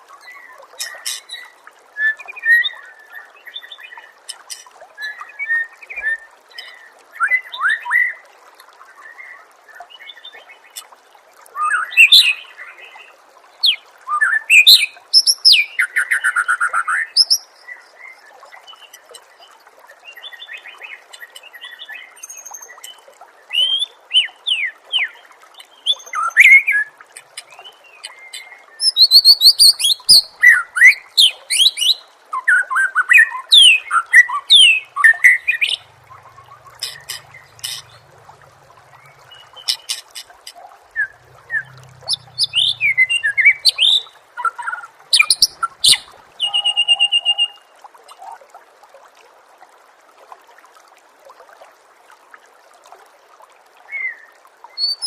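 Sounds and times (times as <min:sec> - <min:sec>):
songbird singing: 0:00.2 - 0:08.2, 0:11.6 - 0:19.3, 0:20.0 - 0:47.7, 0:54.0 - 0:55.0.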